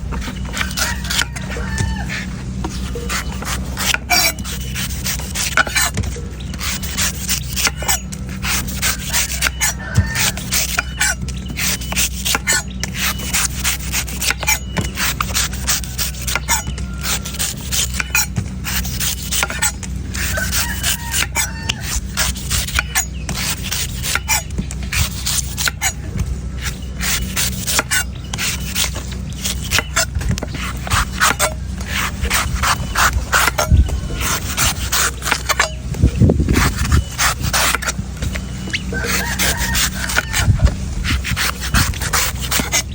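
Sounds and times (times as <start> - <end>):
steady low hum: 0.0 - 42.9
knife chopping coconut: 0.1 - 42.9.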